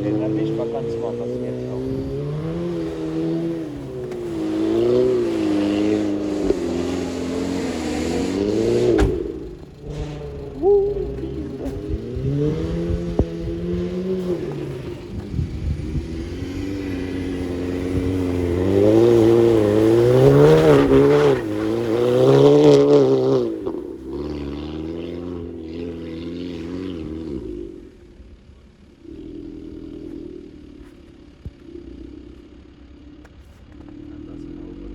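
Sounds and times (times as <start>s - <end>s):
car exhaust accelerating: 0.0s - 34.9s
exhaust crackles: 0.0s - 34.9s.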